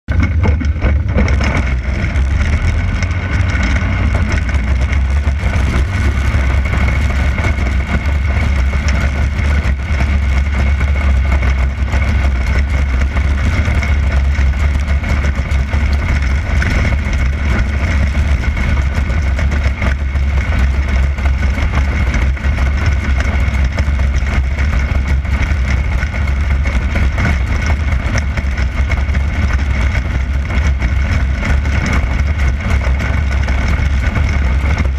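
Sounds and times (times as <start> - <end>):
race car engine rumbling: 0.0 - 34.9.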